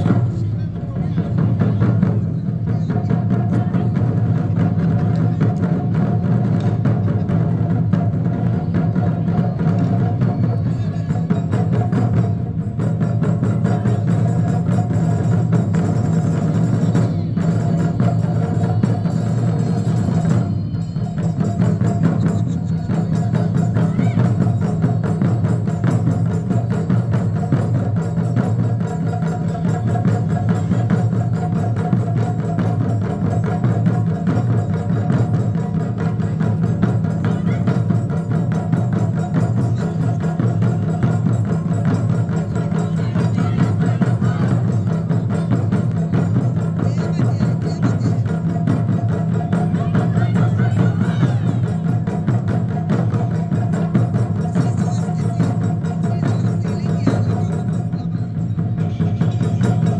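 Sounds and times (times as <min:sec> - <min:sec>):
taiko drums playing fast: 0:00.0 - 0:59.9.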